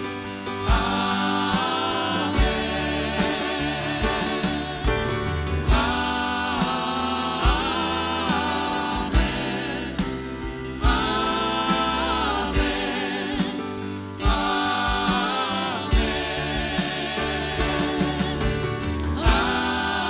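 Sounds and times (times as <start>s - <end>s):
choir and band performing: 0.0s - 20.0s
heavy drum hits: 0.6s - 20.0s.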